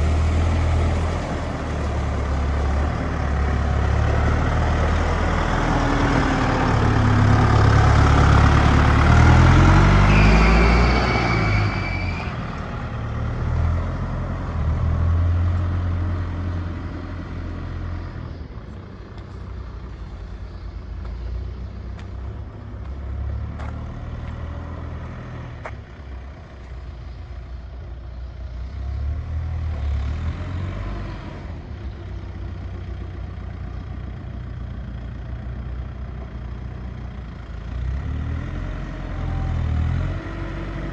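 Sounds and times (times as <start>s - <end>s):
tractor diesel engine running: 0.0s - 29.8s, 31.5s - 40.9s.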